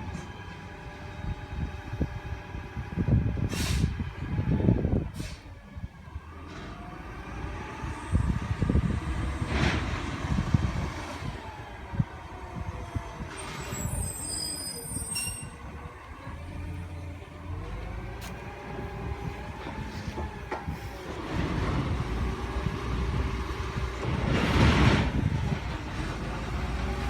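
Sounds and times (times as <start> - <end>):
garbage truck diesel rumble: 0.0 - 27.0.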